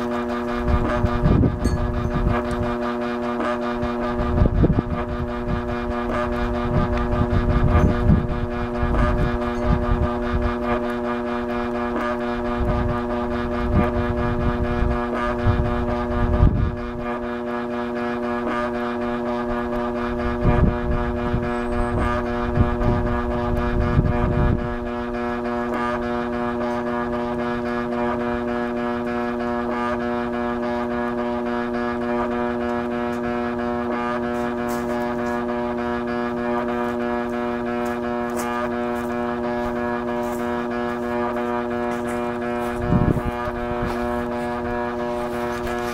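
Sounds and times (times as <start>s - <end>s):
vacuum cleaner motor droning: 0.0s - 45.9s.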